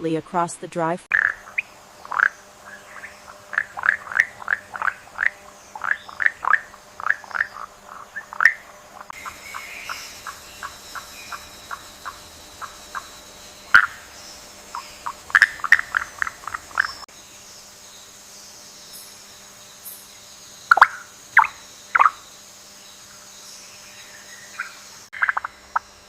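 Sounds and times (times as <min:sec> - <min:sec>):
faint high insect hum: 0:01.1 - 0:26.0
frogs croaking: 0:01.1 - 0:26.0.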